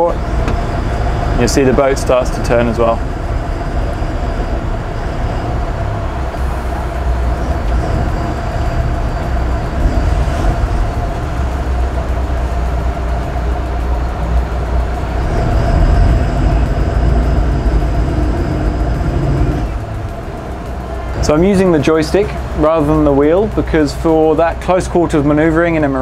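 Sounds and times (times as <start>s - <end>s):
boat engines rumbling: 0.0s - 26.0s.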